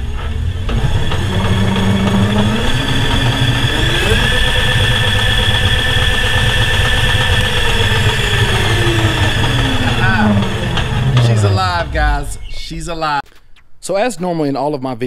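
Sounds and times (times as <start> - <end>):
electric motor humming and whining: 0.0 - 12.4
high-pitched controller whine: 0.4 - 13.7.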